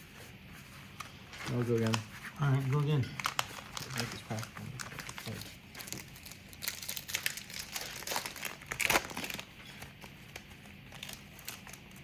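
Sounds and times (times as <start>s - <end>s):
wrapper tearing and crinkling: 1.4s - 12.0s.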